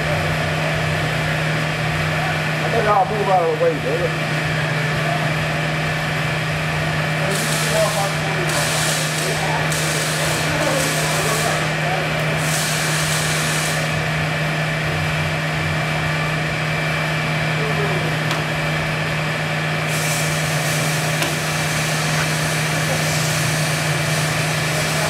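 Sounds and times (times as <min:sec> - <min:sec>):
hydraulic machine low drone: 0:00.0 - 0:25.0.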